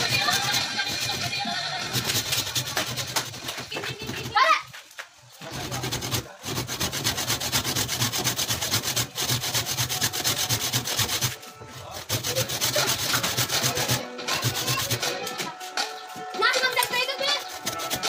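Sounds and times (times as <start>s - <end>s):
handsaw cutting wood: 0.0s - 4.4s, 5.4s - 15.6s, 16.8s - 18.0s.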